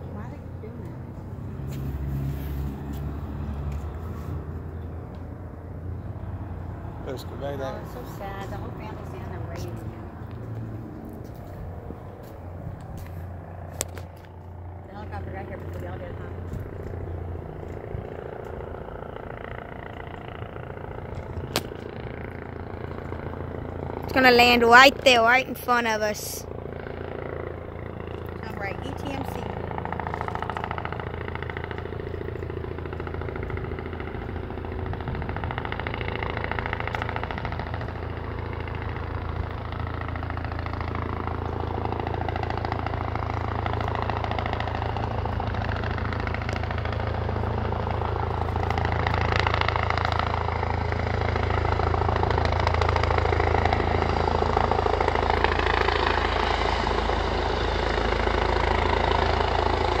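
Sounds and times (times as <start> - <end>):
helicopter engine and rotor drone: 0.0 - 60.0.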